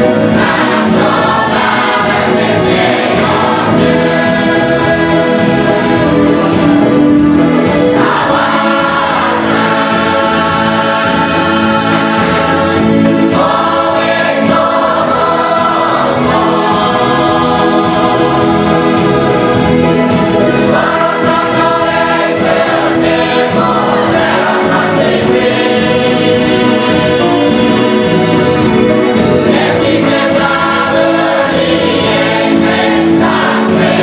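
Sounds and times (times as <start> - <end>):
church choir singing a hymn: 0.0 - 34.0.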